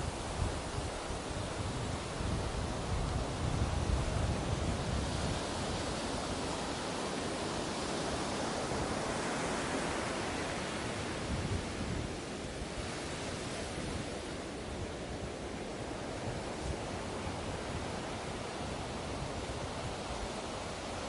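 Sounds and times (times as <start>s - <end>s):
ocean waves washing onto beach: 0.0s - 21.0s.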